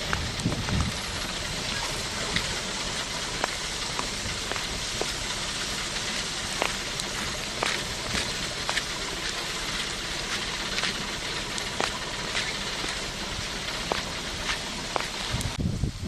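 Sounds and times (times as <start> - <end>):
sharp raindrop ticks: 0.0 - 15.6
rain hissing: 0.0 - 16.0.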